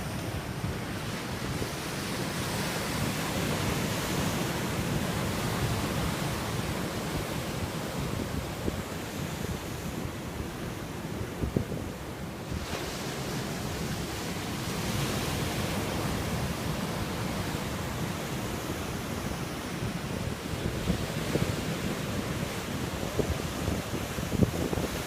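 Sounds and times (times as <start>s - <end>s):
breaking waves: 0.0s - 25.0s
wind buffeting microphone: 0.0s - 25.0s.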